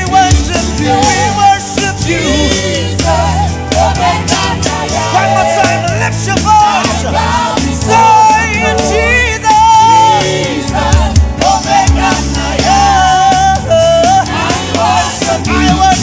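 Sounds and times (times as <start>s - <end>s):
gospel band music: 0.0s - 16.0s.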